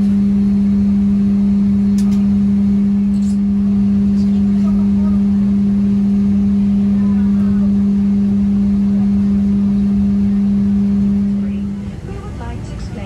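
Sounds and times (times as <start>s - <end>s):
airplane cabin rumble and hum: 0.0s - 13.0s.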